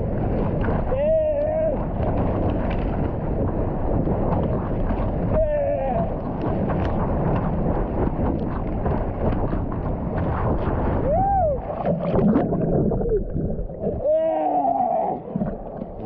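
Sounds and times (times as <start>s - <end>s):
sea water splashing and rushing: 0.0s - 16.0s
wind buffeting the microphone: 0.0s - 16.0s.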